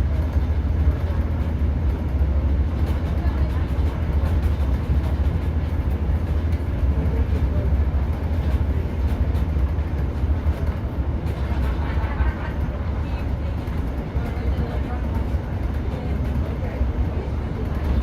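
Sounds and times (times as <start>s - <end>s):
train diesel engine rumble: 0.0s - 18.0s
train wheels on rails: 0.0s - 18.0s.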